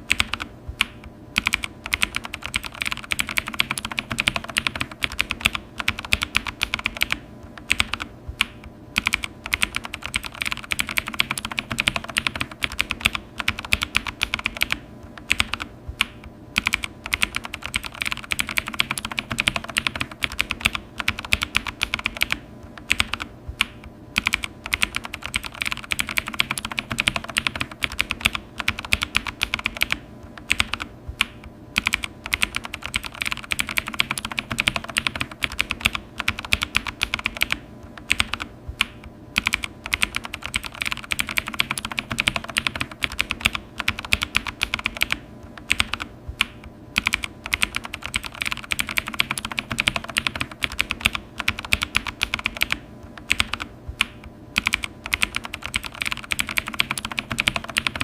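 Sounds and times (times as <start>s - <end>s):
keyboard typing: 0.0s - 58.0s.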